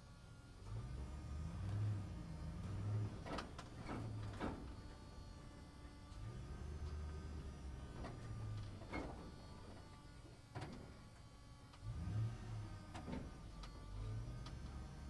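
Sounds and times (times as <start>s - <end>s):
truck engine rumble: 0.6s - 11.0s, 11.8s - 15.0s.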